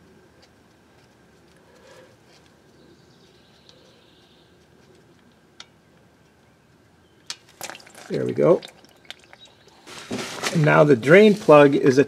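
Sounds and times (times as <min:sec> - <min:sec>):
low steady background noise: 0:00.0 - 0:12.0.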